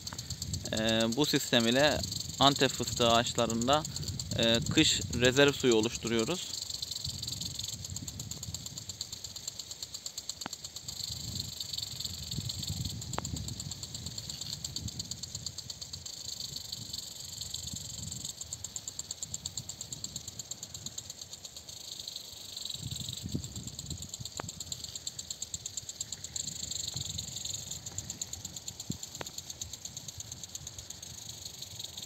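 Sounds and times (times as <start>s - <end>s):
impact sprinklers ticking and hissing: 0.0s - 32.0s.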